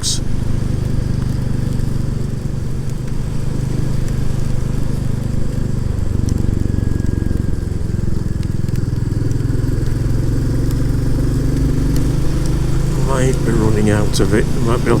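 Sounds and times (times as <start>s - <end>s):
motorcycle engine running: 0.0s - 15.0s
rain ticking: 0.0s - 15.0s.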